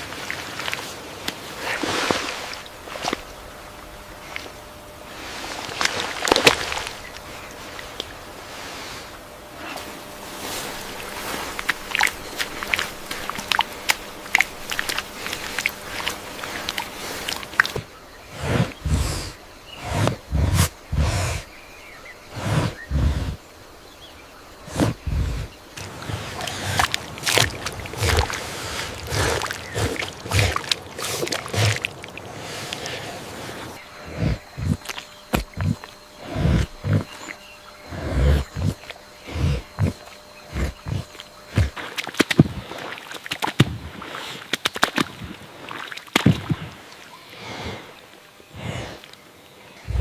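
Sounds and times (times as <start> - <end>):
water splashing and sloshing: 0.0 - 20.9, 24.6 - 50.0.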